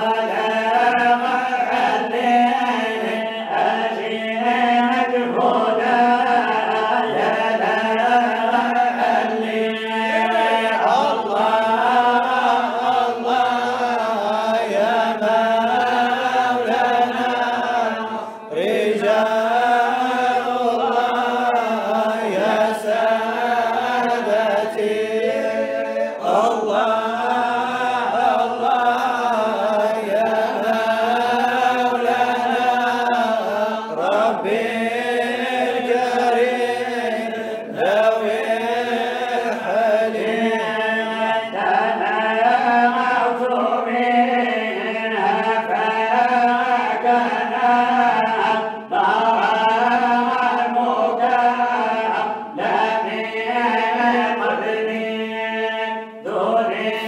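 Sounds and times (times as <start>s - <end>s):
man chanting into a microphone: 0.0s - 57.0s.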